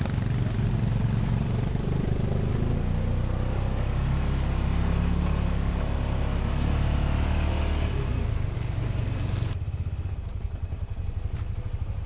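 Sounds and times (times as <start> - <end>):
atv engine rumbling: 0.0 - 12.0.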